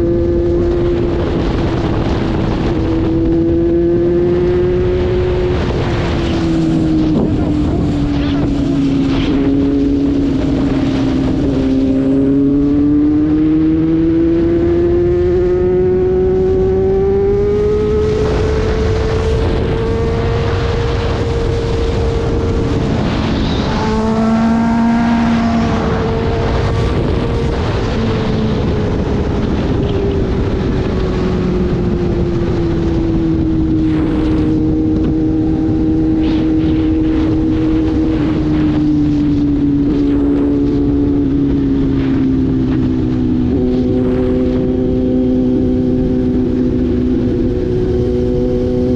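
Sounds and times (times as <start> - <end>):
motorcycle engine revving: 0.0 - 48.9
wind and road noise: 0.0 - 48.9.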